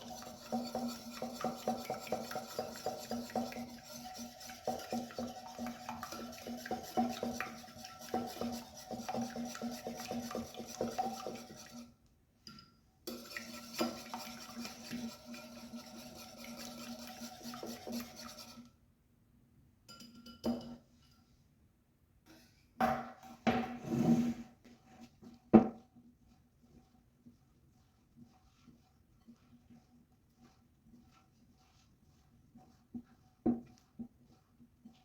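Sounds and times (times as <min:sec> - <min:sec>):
utensil stirring in mixing bowl: 0:00.0 - 0:18.8, 0:24.5 - 0:35.0.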